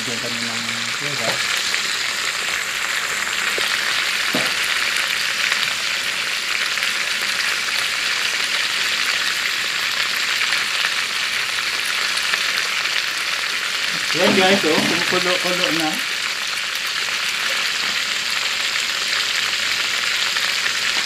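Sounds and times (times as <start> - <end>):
chicken sizzling in pot: 0.0 - 21.0.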